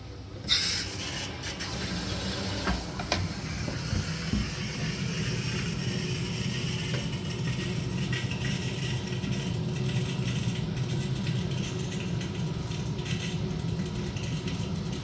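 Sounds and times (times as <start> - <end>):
water hissing through boiler filling loop: 0.0 - 15.0.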